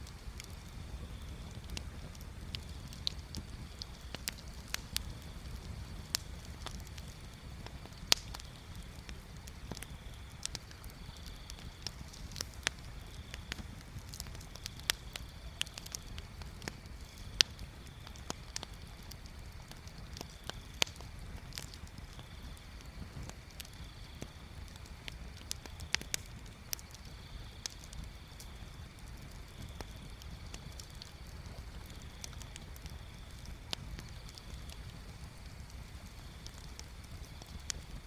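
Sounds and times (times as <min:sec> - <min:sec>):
bonfire crackling and popping: 0:00.0 - 0:38.0.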